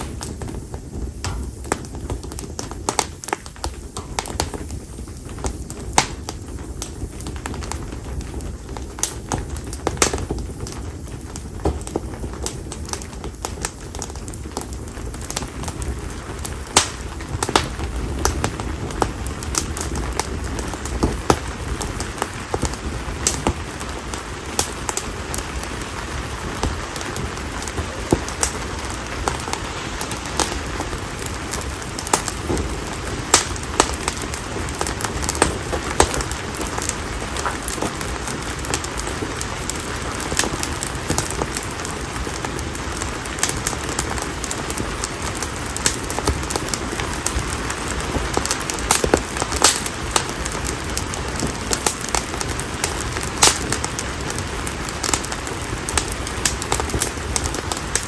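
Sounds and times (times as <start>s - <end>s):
firewood crackling and popping: 0.0s - 58.0s
hiss of flames: 0.0s - 58.0s.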